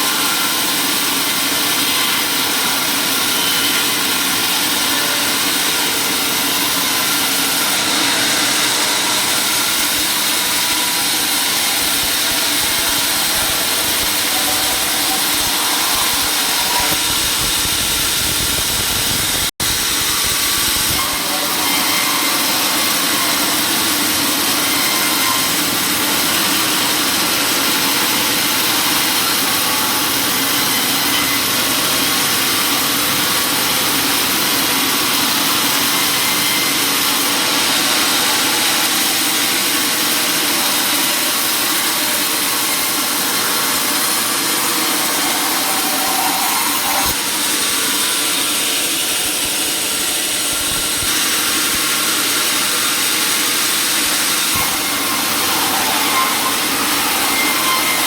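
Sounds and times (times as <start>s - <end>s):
power saw running: 0.0s - 58.0s.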